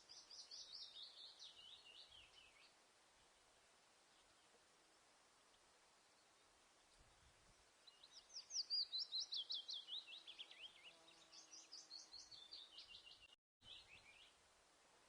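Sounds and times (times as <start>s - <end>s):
songbird chirping: 0.0s - 14.6s.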